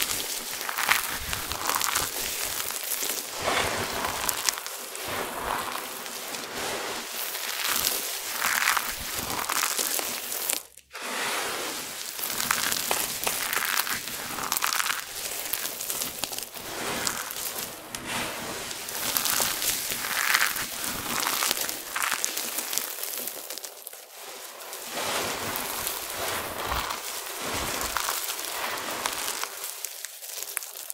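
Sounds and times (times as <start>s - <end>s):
soap pieces crunching and crackling: 0.0s - 10.9s, 11.9s - 18.0s, 18.6s - 30.9s.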